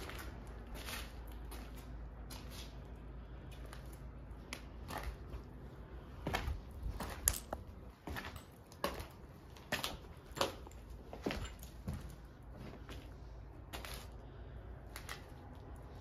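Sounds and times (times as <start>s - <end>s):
footsteps with scuffs and crunches: 0.0s - 16.0s
low steady rumble: 0.0s - 16.0s.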